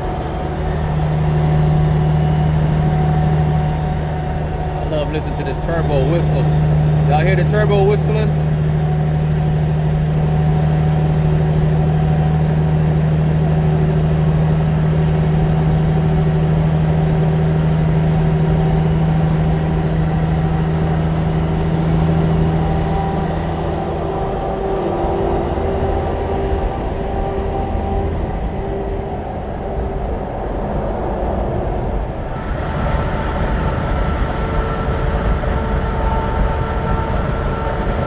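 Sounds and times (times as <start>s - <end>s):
road noise: 0.0s - 38.0s
truck diesel engine drone: 0.0s - 38.0s.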